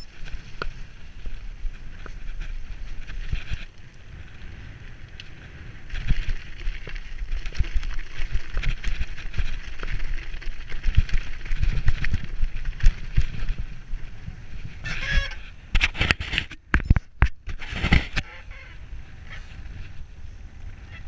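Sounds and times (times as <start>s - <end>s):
mountain bike rattling over rocks: 0.0s - 18.2s
wind: 0.0s - 21.0s.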